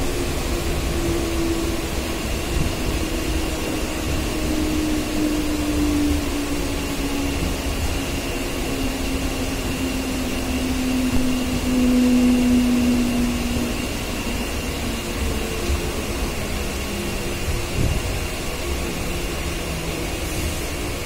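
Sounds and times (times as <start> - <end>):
train rumble and rail noise: 0.0 - 21.0.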